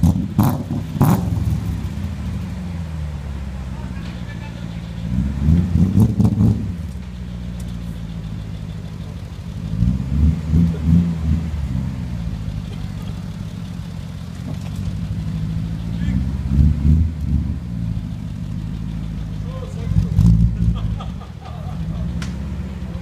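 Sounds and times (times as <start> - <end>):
car engine idling: 0.0 - 23.0
engine revving: 0.0 - 23.0.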